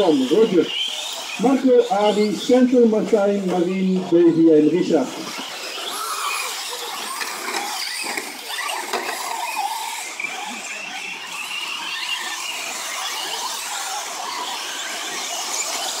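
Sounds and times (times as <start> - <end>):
rc truck motors whining: 0.0 - 16.0.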